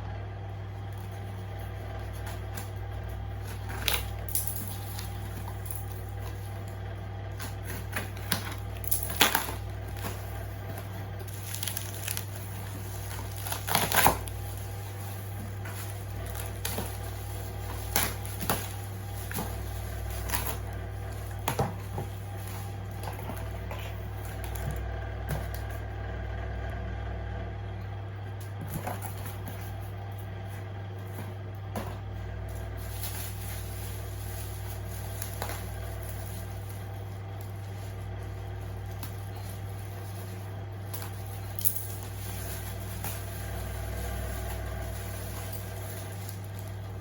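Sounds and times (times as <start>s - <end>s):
steady low hum: 0.0s - 47.0s
packaging rustling: 0.8s - 24.8s, 28.6s - 47.0s.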